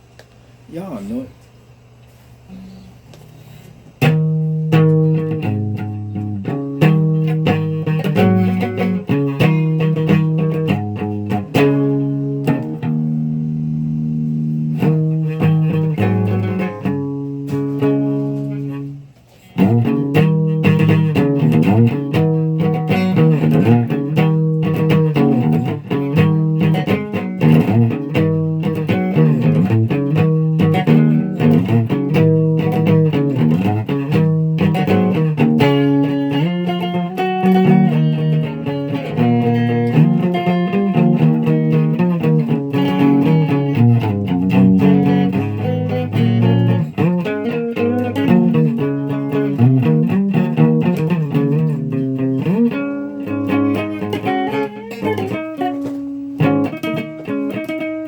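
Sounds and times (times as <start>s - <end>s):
guitar playing: 2.5s - 58.0s.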